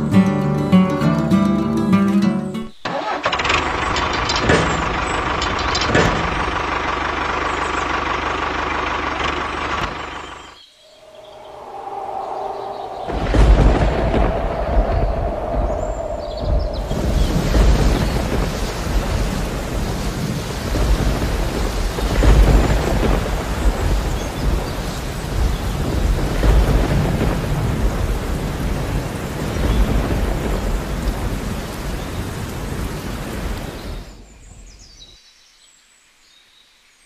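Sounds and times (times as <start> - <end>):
steady rain: 2.8 - 37.0
rolling thunder: 3.0 - 10.2, 11.0 - 34.8.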